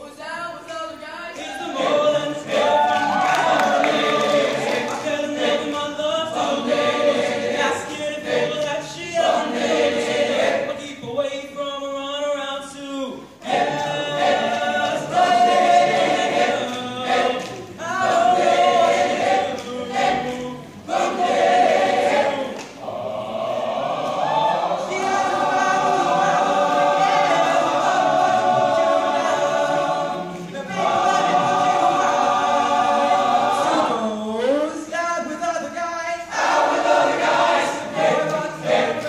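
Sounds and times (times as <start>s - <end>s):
men's choir singing: 1.4s - 11.0s, 13.4s - 34.4s, 36.3s - 39.0s.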